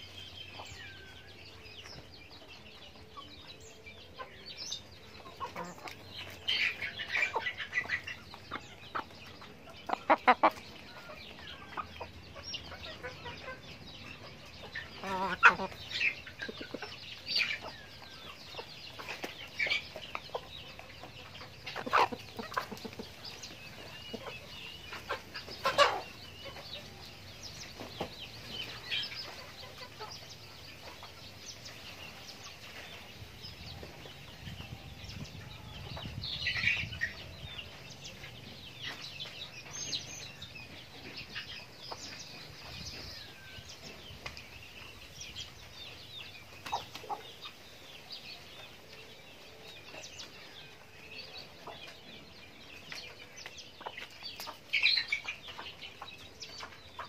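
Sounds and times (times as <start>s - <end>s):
chickens clucking and chirping: 0.0s - 57.0s.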